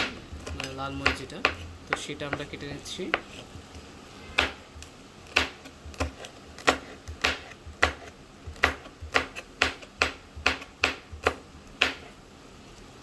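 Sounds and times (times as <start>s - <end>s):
knife chopping on cutting board: 0.0s - 12.2s.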